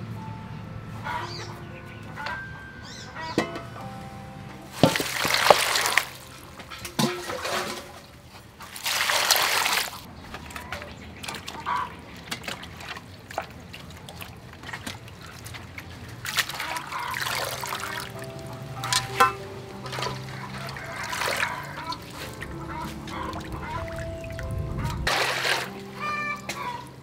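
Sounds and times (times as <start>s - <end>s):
water splashing in metal bowl: 4.7s - 27.0s.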